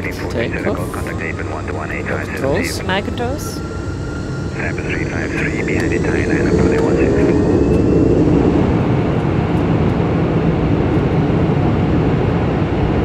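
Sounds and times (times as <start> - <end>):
jet engines deep rumble: 0.0 - 13.0.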